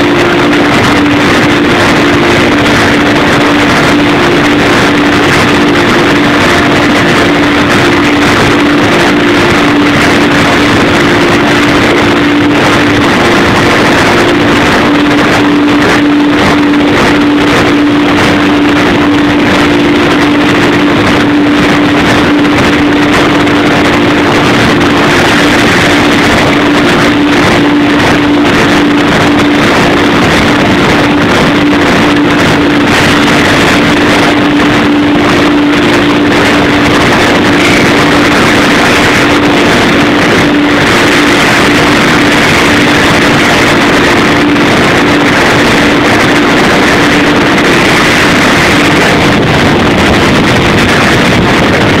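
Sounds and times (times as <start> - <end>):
constant machine hum: 0.0 - 52.0.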